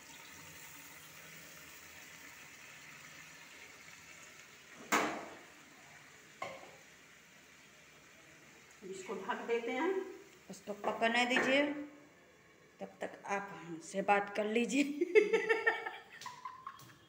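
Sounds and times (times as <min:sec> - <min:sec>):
curry sizzling hiss: 0:00.0 - 0:14.0.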